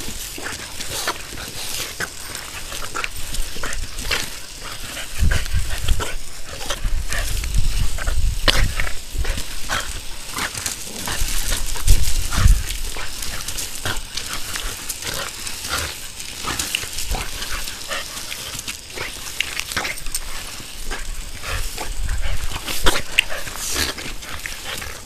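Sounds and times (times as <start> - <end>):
hose water hissing: 0.0 - 25.0.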